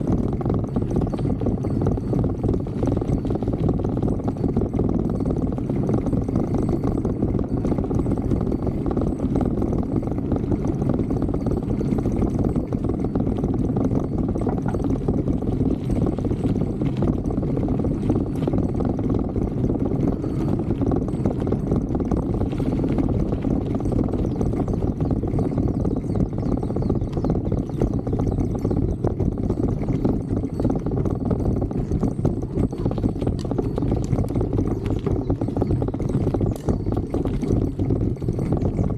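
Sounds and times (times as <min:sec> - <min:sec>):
bicycle tyres rumbling: 0:00.0 - 0:38.9
bike rattling over bumps: 0:00.0 - 0:38.9.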